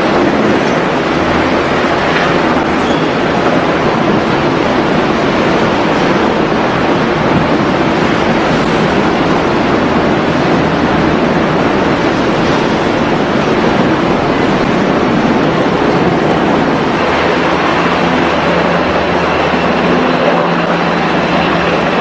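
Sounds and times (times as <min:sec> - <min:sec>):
churning sea water: 0:00.0 - 0:22.0
rush of wind: 0:00.0 - 0:22.0.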